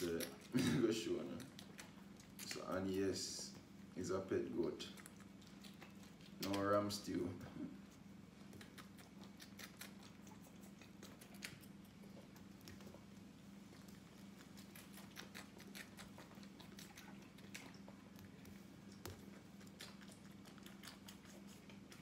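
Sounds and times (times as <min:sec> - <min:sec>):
goat kid suckling from bottle: 0:00.0 - 0:03.7, 0:04.8 - 0:07.0, 0:07.8 - 0:22.0.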